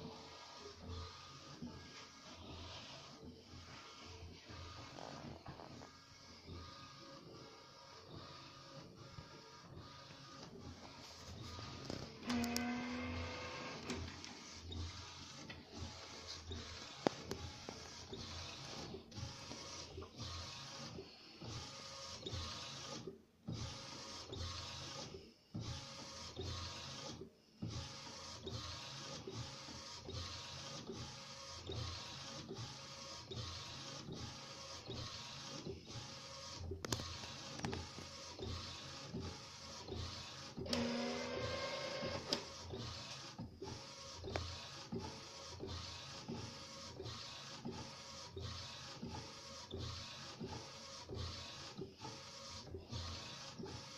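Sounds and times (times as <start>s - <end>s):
printer carriage motor whirring: 0.0s - 53.9s.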